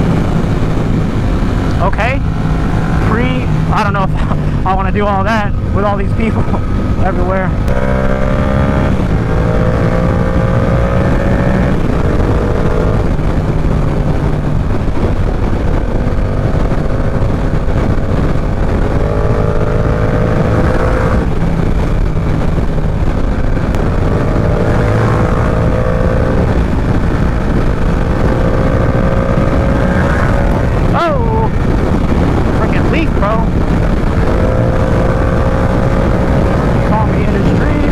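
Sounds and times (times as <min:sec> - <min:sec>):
motorcycle engine revving: 0:00.0 - 0:37.9
wind rush on microphone: 0:00.0 - 0:37.9.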